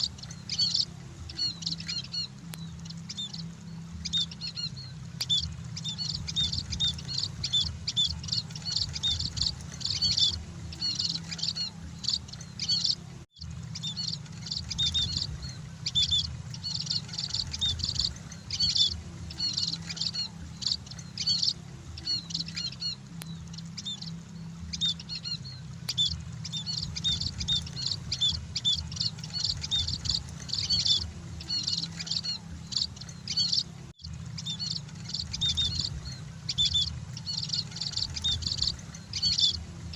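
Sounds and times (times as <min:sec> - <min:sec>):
birds chirping: 0:00.0 - 0:39.9
steady low hum: 0:00.0 - 0:39.9.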